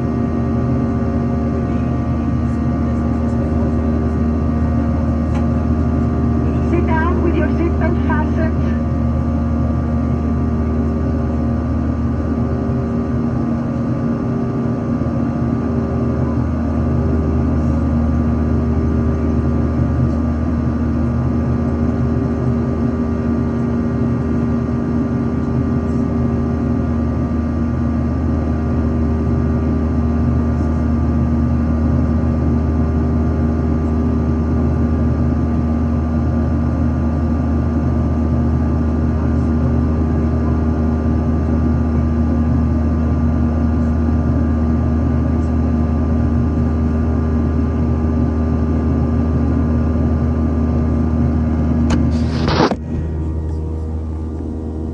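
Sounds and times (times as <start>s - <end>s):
airliner engines droning: 0.0s - 54.9s.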